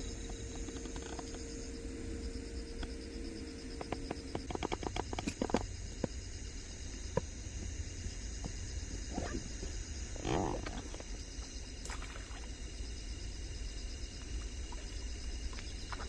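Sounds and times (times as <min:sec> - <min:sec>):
insects chirping in pulsing trills: 0:00.0 - 0:16.0.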